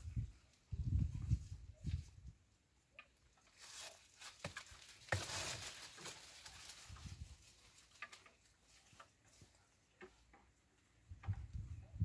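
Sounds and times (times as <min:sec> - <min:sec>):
leaves rustling in a breeze: 0:00.0 - 0:12.0.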